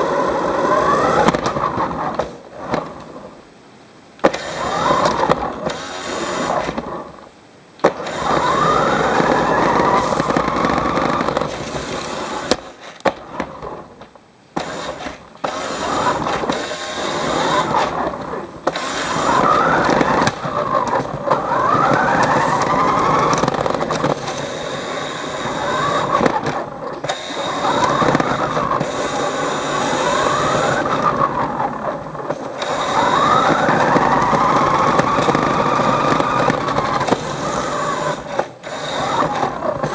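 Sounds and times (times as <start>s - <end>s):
toy car electric motor whining: 0.0s - 3.3s, 4.2s - 7.2s, 7.8s - 14.0s, 14.6s - 39.9s.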